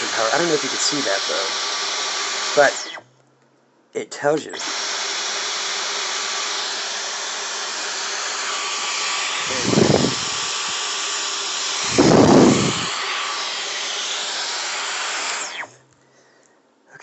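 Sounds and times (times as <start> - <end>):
vacuum cleaner humming: 0.0 - 3.0, 4.4 - 15.8
vacuum nozzle rushes: 0.0 - 3.0, 4.3 - 15.8.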